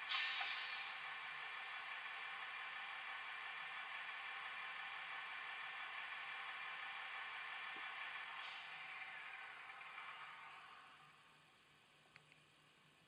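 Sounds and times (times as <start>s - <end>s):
diesel engine hum through small loudspeaker: 0.0s - 13.0s.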